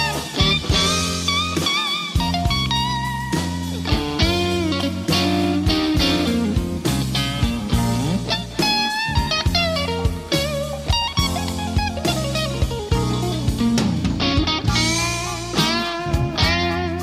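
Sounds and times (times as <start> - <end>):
blues music with electric guitar: 0.0 - 17.0.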